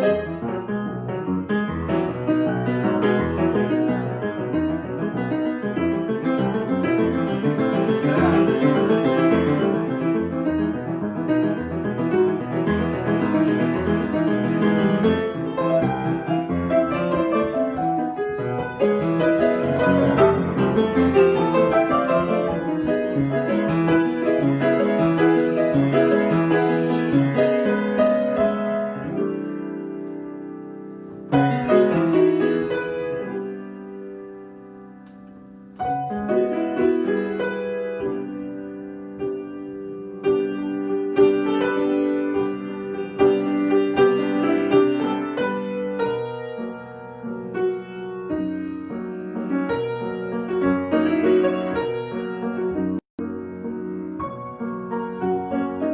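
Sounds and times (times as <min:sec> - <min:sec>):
solo piano playing: 0:00.0 - 0:55.9.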